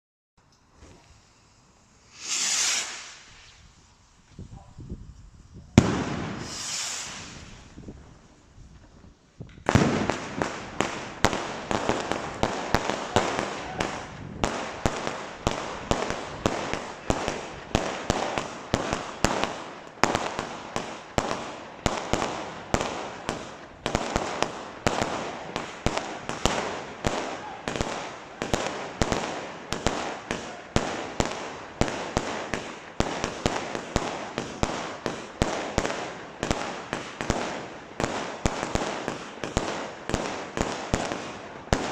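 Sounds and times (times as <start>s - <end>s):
fireworks crackling: 0.4s - 41.9s
firework bangs: 2.0s - 3.7s, 5.7s - 8.2s, 8.8s - 41.9s.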